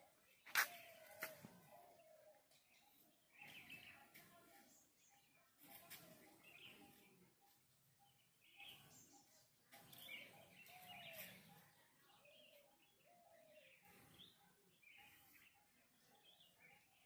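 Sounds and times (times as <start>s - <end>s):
faint birds chirping and calling: 0.0s - 17.0s.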